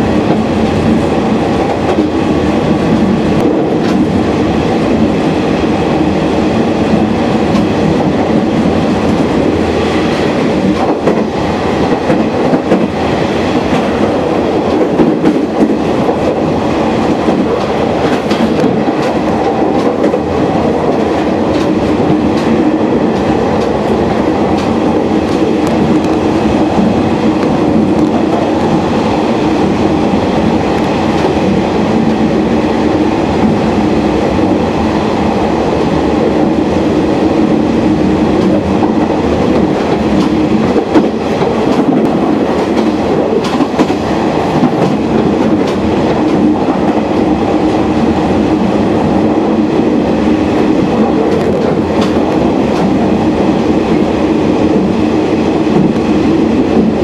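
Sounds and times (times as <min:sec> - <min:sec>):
clickety-clack over rail joints: 0:00.0 - 0:05.4, 0:06.8 - 0:32.2, 0:37.9 - 0:49.7, 0:50.3 - 0:57.0
train wheels rumbling on rails: 0:00.0 - 0:57.0.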